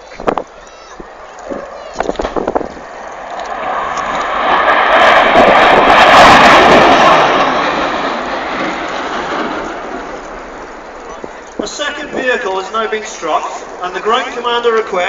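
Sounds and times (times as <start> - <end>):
jet passing: 0.0 - 15.0.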